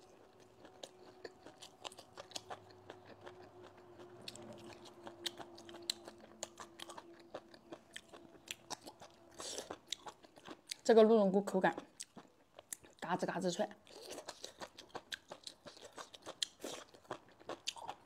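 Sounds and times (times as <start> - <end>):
crunchy chewing: 0.0 - 10.9, 11.8 - 13.0, 13.8 - 18.0.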